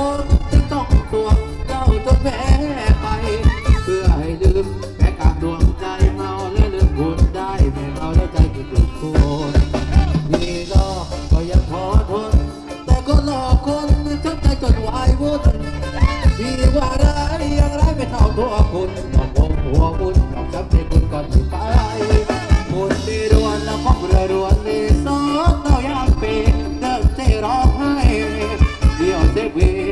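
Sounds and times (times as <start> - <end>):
live band dance music: 0.0 - 29.9
steady drum beat: 0.0 - 29.9.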